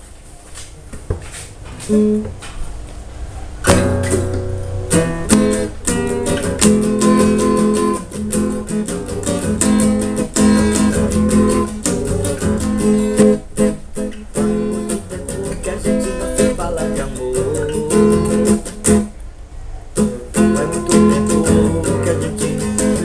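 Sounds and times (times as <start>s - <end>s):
acoustic guitar strumming: 1.8s - 2.4s, 3.6s - 19.2s, 20.0s - 23.0s.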